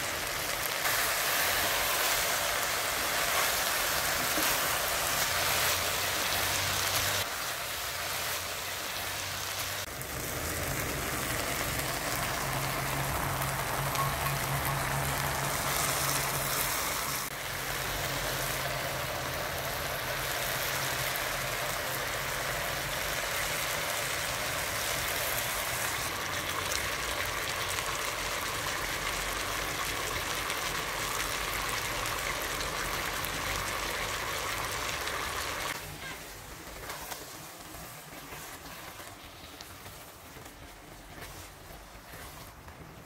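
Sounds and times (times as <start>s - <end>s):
food sizzling in a pot: 0.0s - 40.5s.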